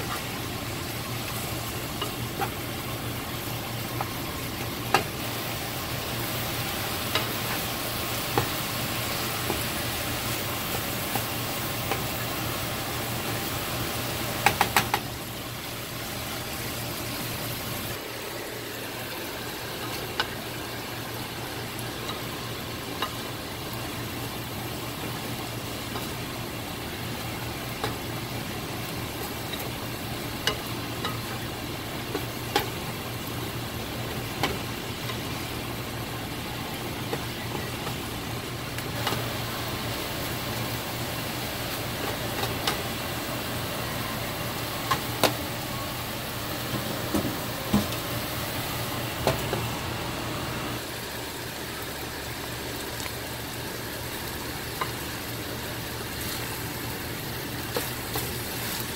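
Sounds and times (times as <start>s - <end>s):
vegetables sizzling in a frying pan: 0.0s - 58.9s.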